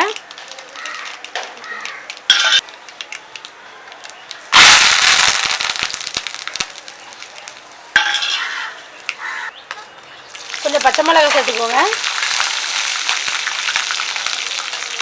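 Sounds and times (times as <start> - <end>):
seeds popping in hot oil: 0.0 - 15.0.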